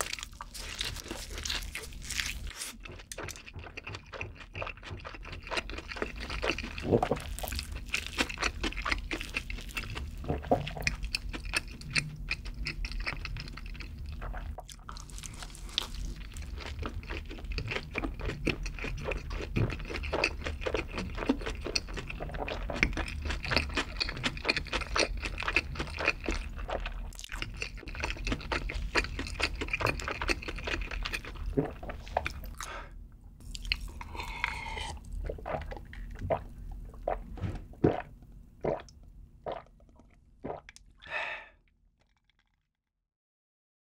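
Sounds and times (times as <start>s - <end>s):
wet crunchy chewing: 0.0s - 40.9s
swallowing gulps: 2.8s - 15.1s, 16.4s - 42.6s.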